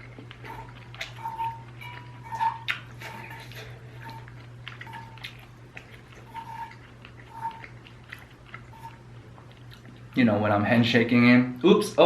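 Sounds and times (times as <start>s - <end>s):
chewing mouth smacks: 0.0s - 10.2s
steady low hum: 0.0s - 12.0s.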